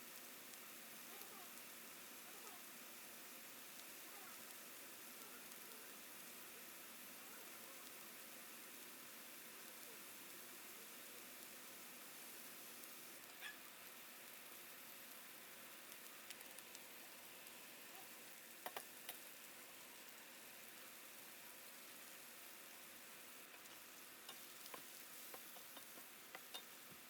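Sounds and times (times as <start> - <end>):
food frying sizzle: 0.0 - 27.0.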